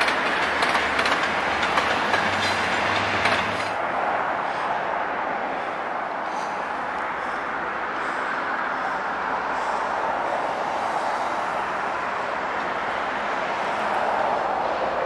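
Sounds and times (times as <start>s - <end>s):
city background noise: 0.0s - 15.0s
diesel train engine and wheels: 0.0s - 15.0s.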